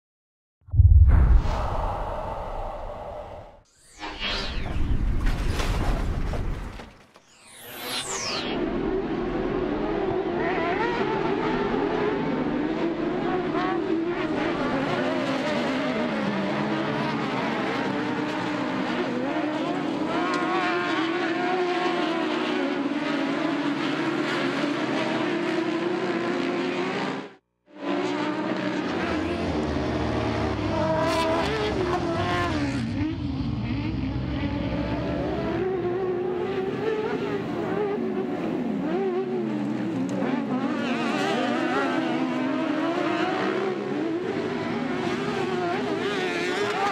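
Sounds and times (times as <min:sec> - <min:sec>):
racing engines revving: 0:08.4 - 0:46.9.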